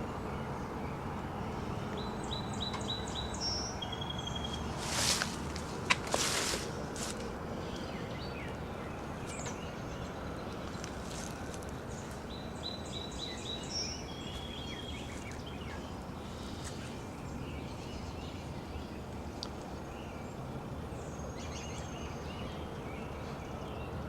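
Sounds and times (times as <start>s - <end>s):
steady rushing background noise: 0.0s - 21.2s.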